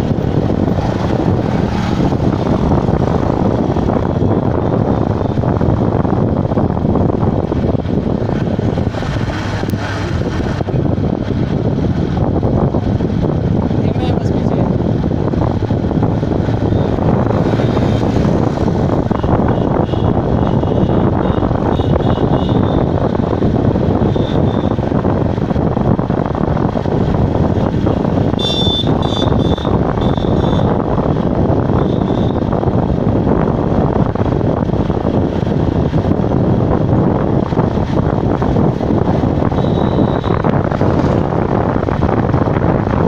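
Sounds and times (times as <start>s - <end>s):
air rushing over microphone: 0.0s - 43.0s
vehicle engine running: 0.0s - 43.0s.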